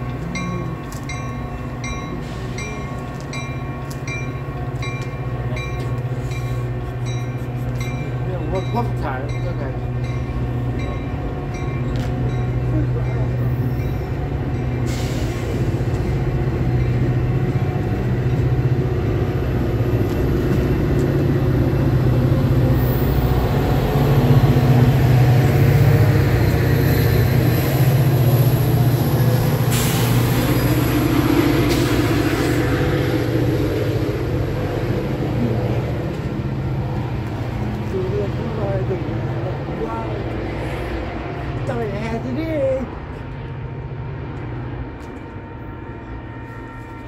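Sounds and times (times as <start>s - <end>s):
diesel engine hum: 0.0s - 47.0s
train cars rumbling: 0.0s - 47.0s.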